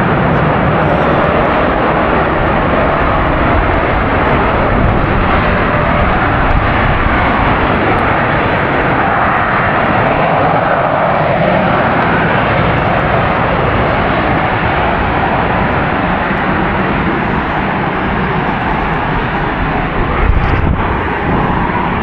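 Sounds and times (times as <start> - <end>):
aircraft engine in flight: 0.0 - 22.0.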